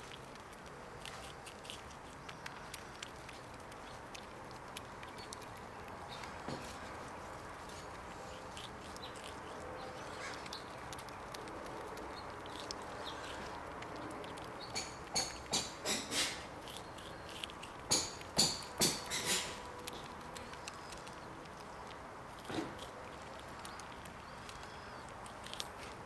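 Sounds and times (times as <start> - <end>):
squirrel gnawing corn: 0.0 - 26.0.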